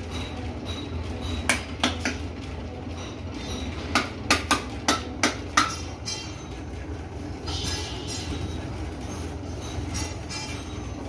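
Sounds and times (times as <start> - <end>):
metal clinking on metal: 0.0 - 2.2, 2.9 - 11.0
steady low hum: 0.0 - 11.0.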